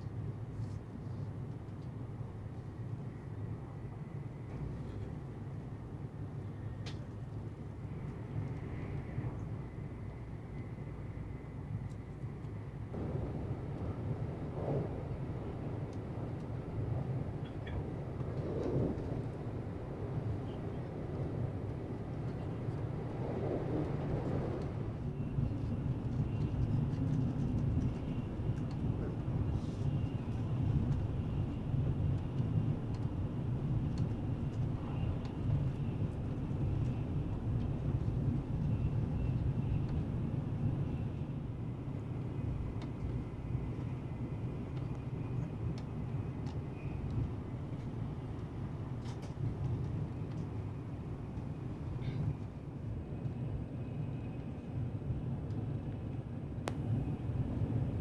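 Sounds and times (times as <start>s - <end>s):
train running rumble: 0.1s - 58.0s.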